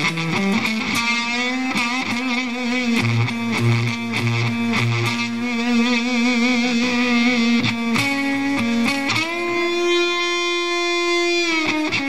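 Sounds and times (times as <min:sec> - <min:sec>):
fuzz electric guitar sustained note: 0:00.0 - 0:12.0.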